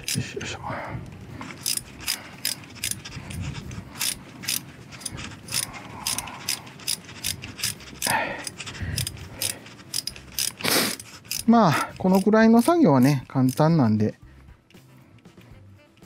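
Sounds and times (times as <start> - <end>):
ratchet wrench clicking: 0.0 - 0.3, 1.4 - 14.1.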